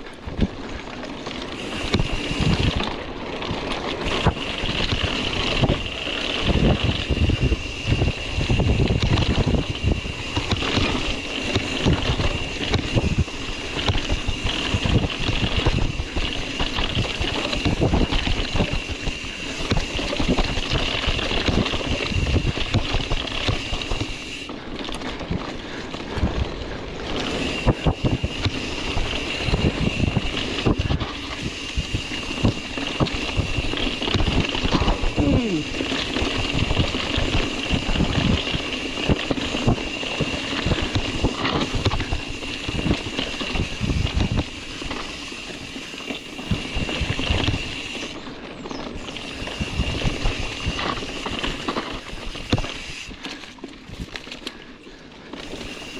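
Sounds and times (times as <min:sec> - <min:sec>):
bike thumping and rattling: 0:00.0 - 0:55.9
wind buffeting microphone: 0:01.6 - 0:24.3, 0:25.0 - 0:53.2.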